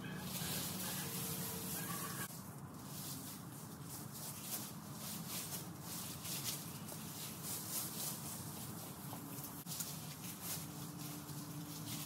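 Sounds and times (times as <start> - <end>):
branches dragged across lawn: 0.0 - 12.0.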